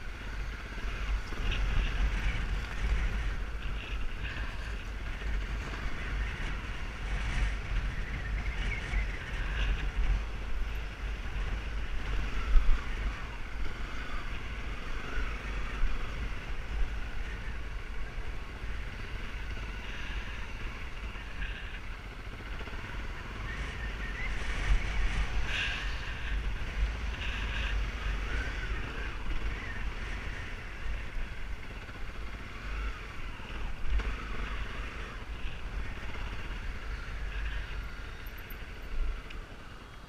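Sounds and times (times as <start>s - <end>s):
motorbike engine running: 0.0s - 40.0s
wind buffeting microphone: 0.0s - 40.0s.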